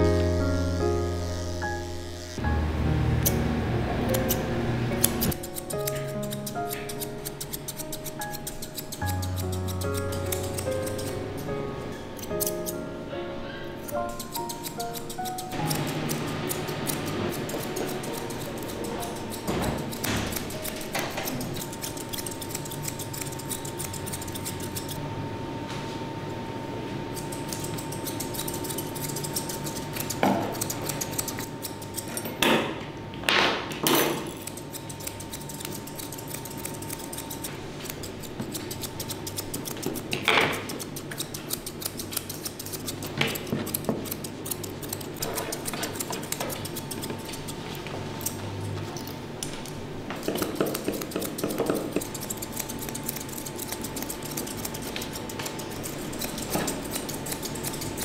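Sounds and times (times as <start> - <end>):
scissors snipping fur: 4.1 - 11.6, 12.2 - 12.8, 13.8 - 25.0, 27.2 - 32.4, 34.2 - 48.4, 49.0 - 58.0
metallic scissor clicks: 4.1 - 12.8, 13.9 - 25.0, 27.2 - 32.4, 34.1 - 47.6, 48.2 - 48.4, 49.0 - 58.0.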